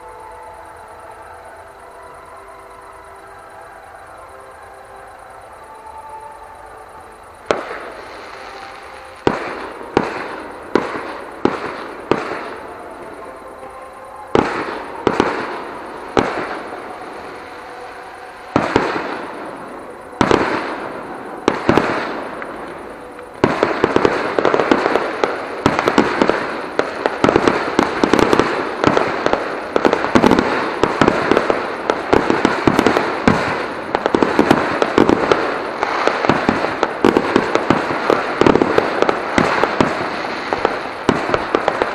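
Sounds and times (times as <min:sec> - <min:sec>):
firework crackling: 0:00.0 - 0:41.9
distant firework bangs: 0:07.4 - 0:41.9.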